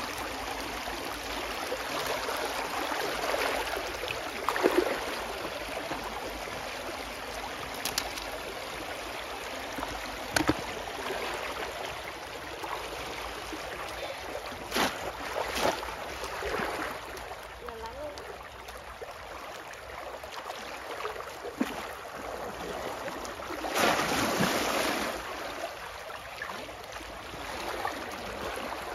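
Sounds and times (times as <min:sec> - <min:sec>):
shallow water splashing: 0:00.0 - 0:28.9.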